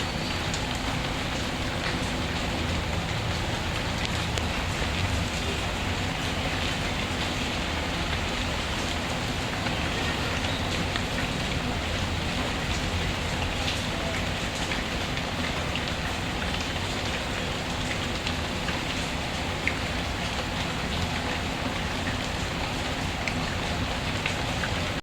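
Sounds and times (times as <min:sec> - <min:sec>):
raindrops pattering: 0:00.0 - 0:25.0.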